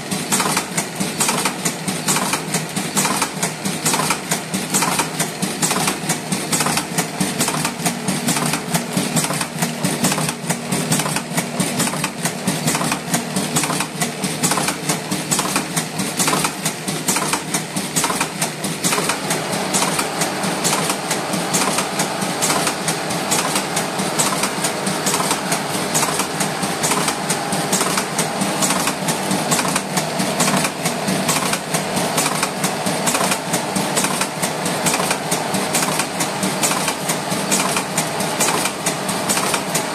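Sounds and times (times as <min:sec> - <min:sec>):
rolling machine clattering: 0:00.0 - 0:39.9.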